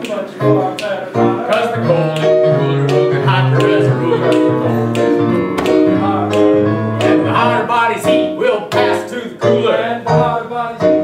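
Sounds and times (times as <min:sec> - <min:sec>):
piano accompaniment: 0:00.0 - 0:11.0.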